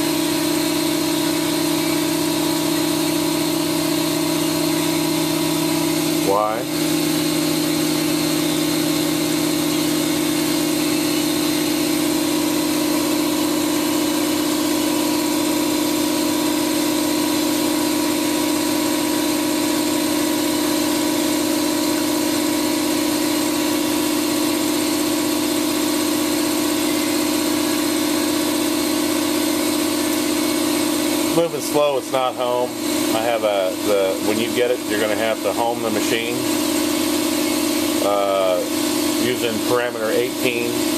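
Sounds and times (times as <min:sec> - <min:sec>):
milling machine hum: 0:00.0 - 0:40.9.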